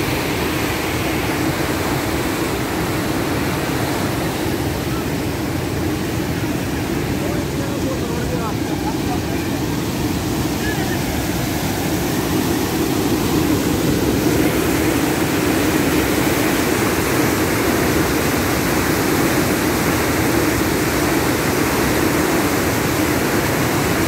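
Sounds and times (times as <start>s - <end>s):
floodwater roaring through gates: 0.0s - 24.0s.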